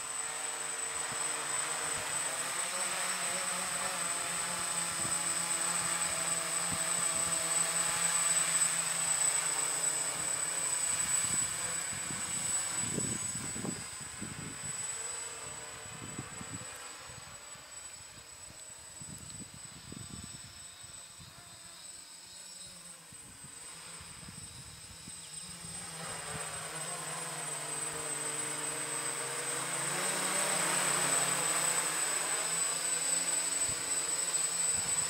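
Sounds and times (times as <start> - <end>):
drone propellers buzzing: 0.0 - 35.0.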